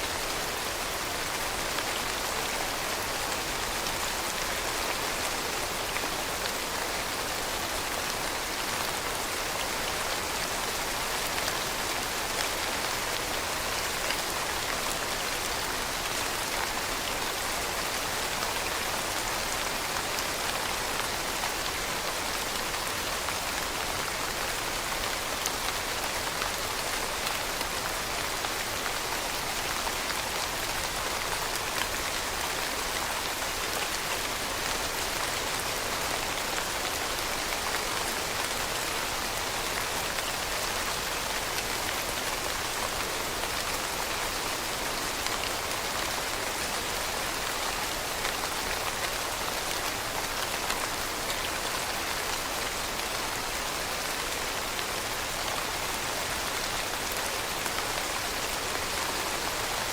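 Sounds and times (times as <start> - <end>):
steady rain hissing: 0.0 - 59.9.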